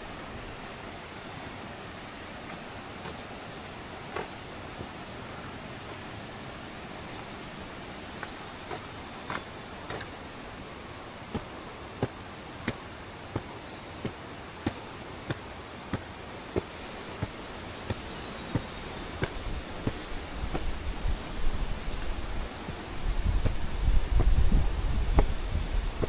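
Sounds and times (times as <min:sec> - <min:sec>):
steady rushing hiss: 0:00.0 - 0:26.0
footsteps on a path: 0:01.3 - 0:06.2, 0:06.9 - 0:26.0.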